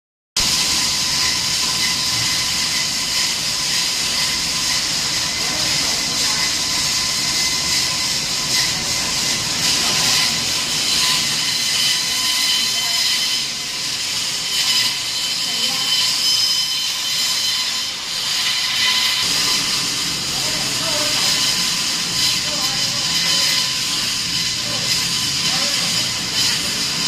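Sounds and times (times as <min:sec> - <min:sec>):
machine whine over hiss: 0:00.4 - 0:27.0.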